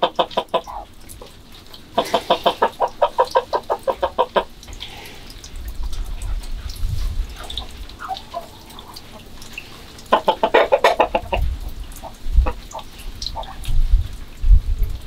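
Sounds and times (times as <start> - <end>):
chickens clucking: 0.0 - 13.9.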